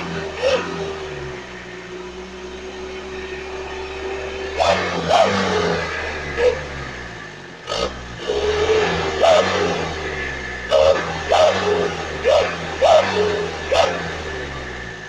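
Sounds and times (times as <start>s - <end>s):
engine idling with deep exhaust note: 0.0s - 15.0s
engine throttle blips: 0.0s - 15.0s.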